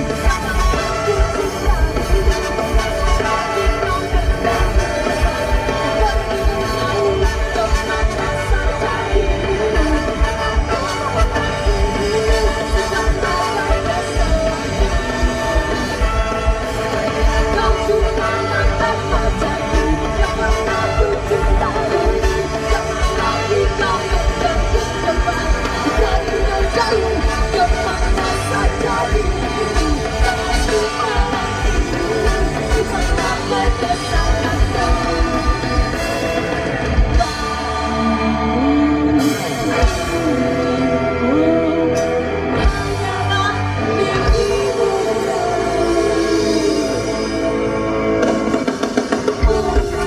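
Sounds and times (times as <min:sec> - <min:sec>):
person singing: 0:00.0 - 0:50.0
ska band playing live: 0:00.0 - 0:50.0.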